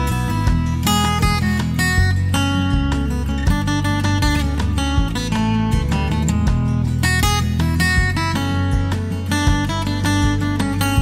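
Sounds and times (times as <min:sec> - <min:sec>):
acoustic guitar: 0:00.0 - 0:11.0
bass line: 0:00.0 - 0:11.0.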